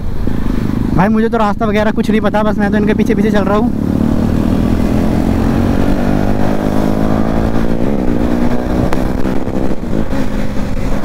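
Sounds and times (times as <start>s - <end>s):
wind noise: 0.0s - 11.0s
motorcycle engine running: 2.1s - 11.0s.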